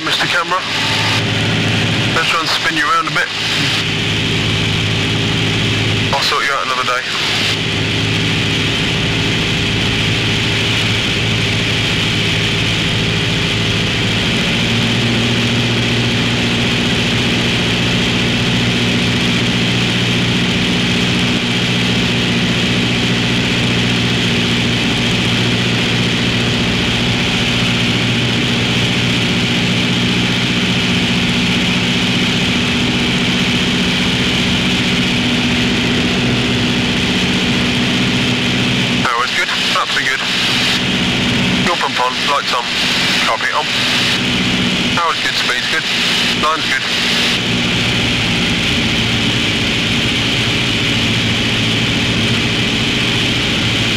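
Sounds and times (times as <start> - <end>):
airplane engine droning: 0.0 - 53.9.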